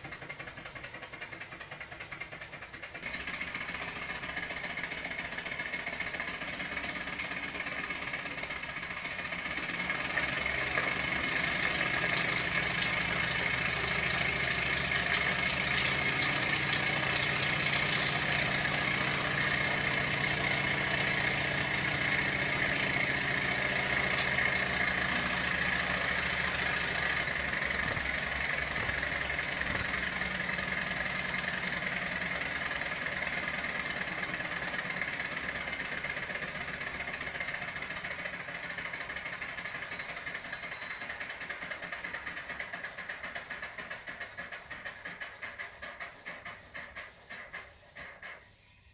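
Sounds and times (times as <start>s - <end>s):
model steam engine running: 0.0s - 48.6s
steam hissing: 2.9s - 48.9s.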